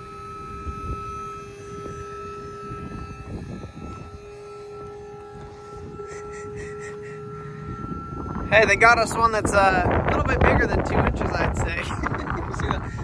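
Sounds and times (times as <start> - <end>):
motor humming and whining: 0.0 - 13.0.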